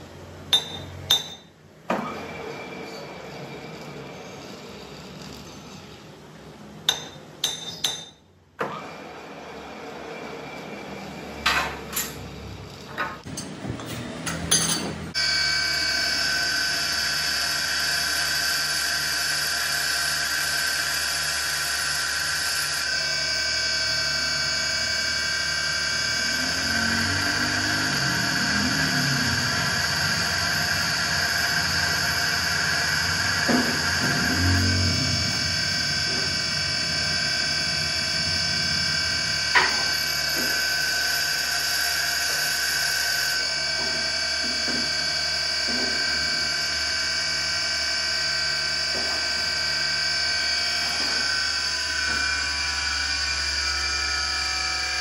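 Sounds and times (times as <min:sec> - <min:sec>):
bench grinder grinding metal: 0:02.6 - 0:06.2, 0:10.8 - 0:55.0.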